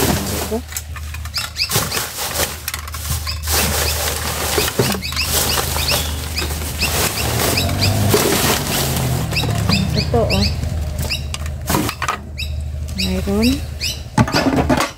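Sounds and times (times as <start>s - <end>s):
plastic bags rustling: 0.0s - 13.6s.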